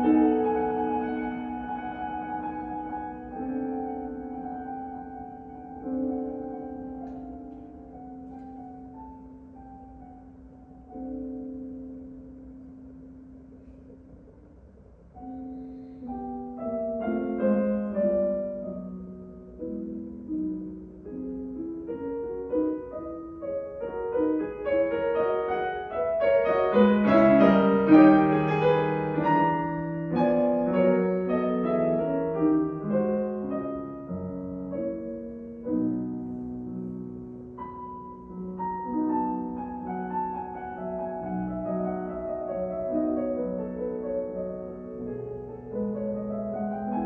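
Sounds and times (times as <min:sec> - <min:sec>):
solo classical piano: 0:00.0 - 0:47.0.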